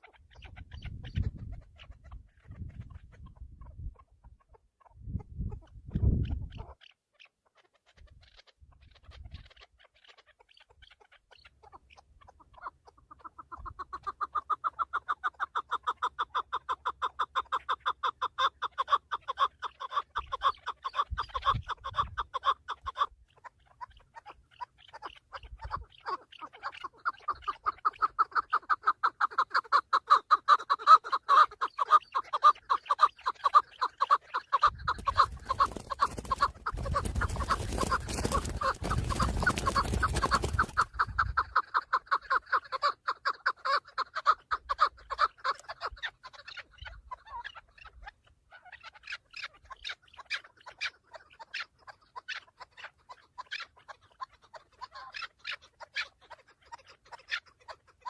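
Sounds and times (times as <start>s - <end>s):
partridge clucking calls: 0.0s - 58.0s.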